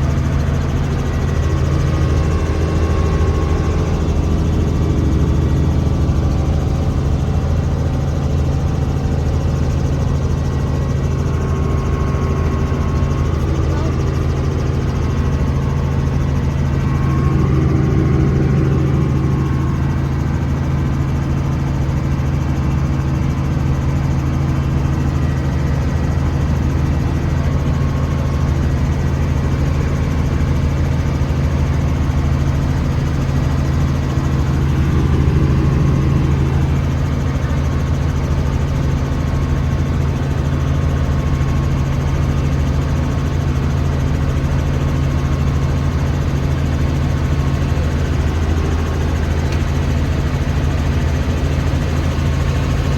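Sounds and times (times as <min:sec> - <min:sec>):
helicopter engine and rotor drone: 0:00.0 - 0:52.9.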